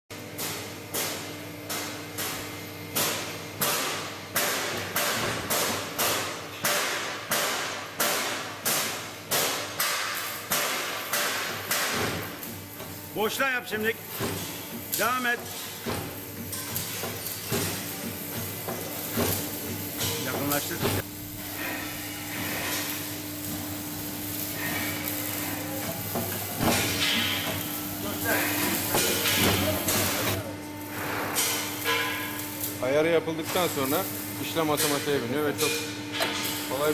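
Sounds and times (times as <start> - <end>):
clamping machine hissing and humming: 3.6 - 36.9.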